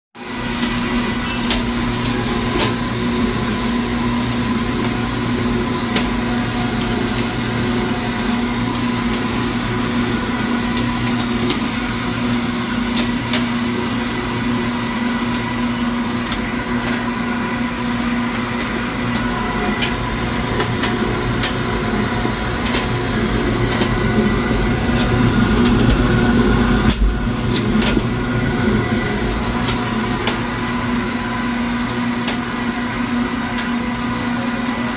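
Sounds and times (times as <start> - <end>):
mixer motor humming: 0.2 - 34.9.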